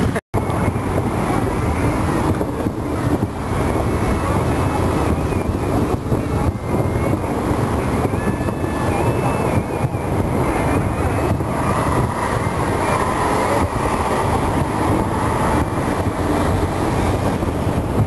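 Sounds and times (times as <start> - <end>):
distant fireworks rumble and crackle: 0.1 - 18.0.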